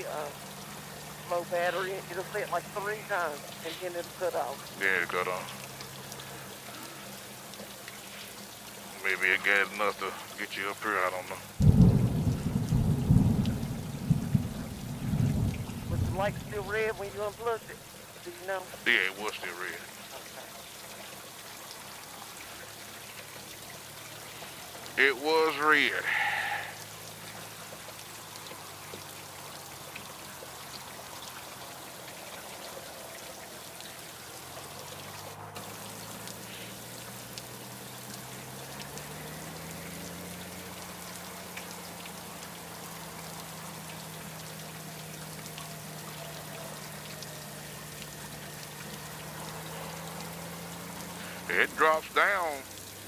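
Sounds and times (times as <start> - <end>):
rain and wet road spray: 0.0 - 53.0.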